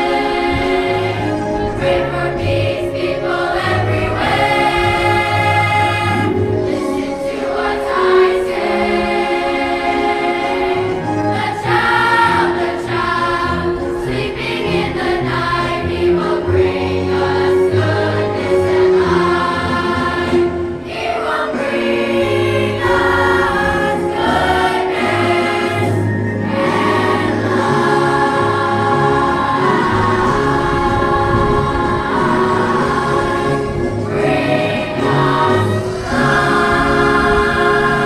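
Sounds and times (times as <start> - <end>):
choir singing with accompaniment: 0.0 - 38.0.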